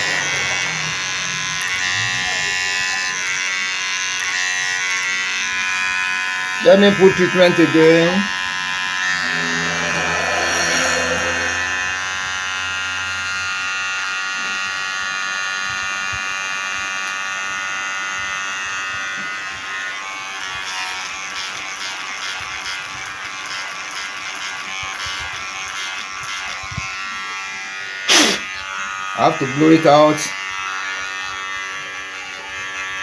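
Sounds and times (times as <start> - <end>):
hair clipper buzzing: 0.0 - 33.0.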